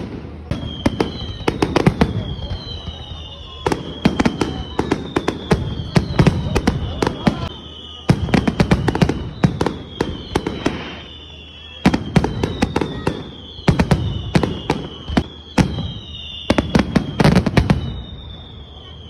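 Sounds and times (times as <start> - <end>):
firework whistles falling in pitch: 0.0 - 19.0
fireworks bangs and crackles: 0.0 - 19.0.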